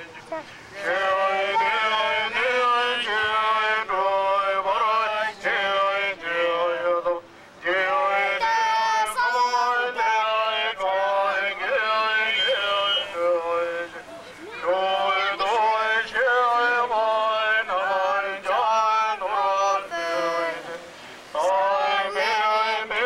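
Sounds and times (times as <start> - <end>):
person chanting through a megaphone: 0.0 - 23.0.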